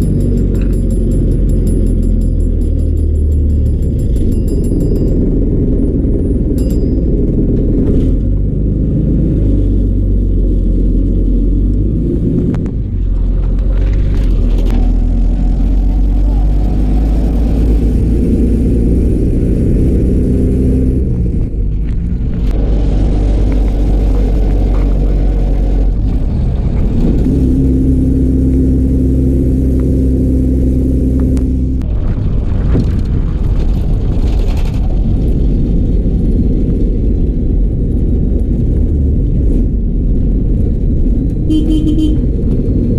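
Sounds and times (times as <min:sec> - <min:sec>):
bus engine rumble: 0:00.0 - 0:42.9.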